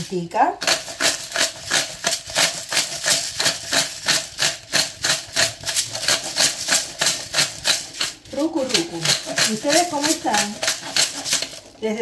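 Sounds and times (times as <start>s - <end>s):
pepper mill grinding: 0.0s - 12.0s.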